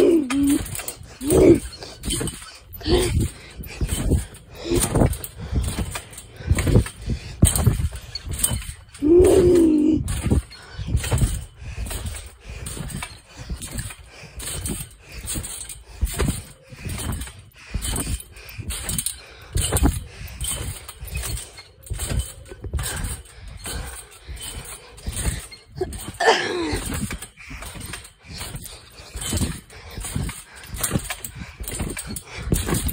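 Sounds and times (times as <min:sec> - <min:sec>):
trampoline mat thumping: 0:00.0 - 0:32.9
trampoline springs creaking: 0:00.0 - 0:32.9.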